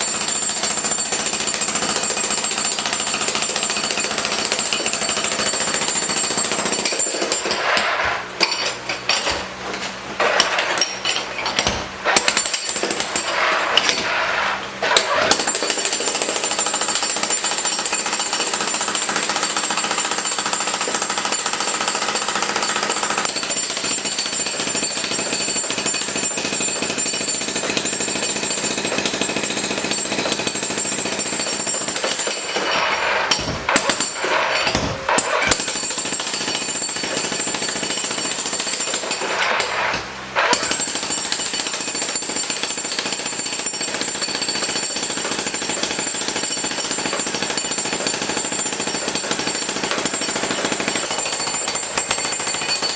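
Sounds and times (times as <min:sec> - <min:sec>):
jackhammer breaking concrete: 0:00.0 - 0:52.9.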